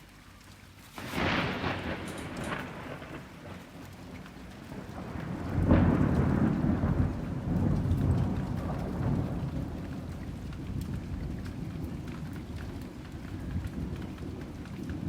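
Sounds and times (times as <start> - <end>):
rain falling: 0.0 - 15.0
thunder crack and rumble: 1.0 - 15.0.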